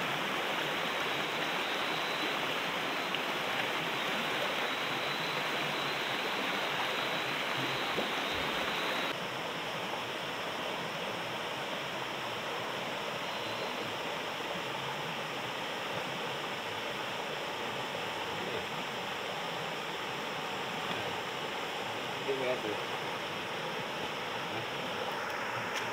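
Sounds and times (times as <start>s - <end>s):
water rushing: 0.0s - 25.9s.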